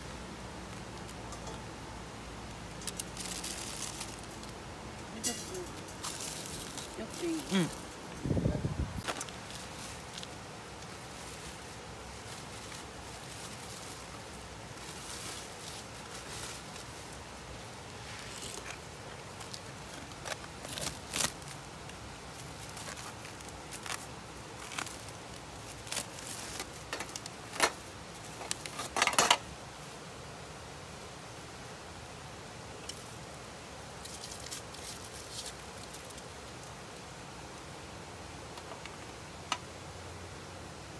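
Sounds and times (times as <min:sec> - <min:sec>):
steady background hiss: 0:00.0 - 0:40.9.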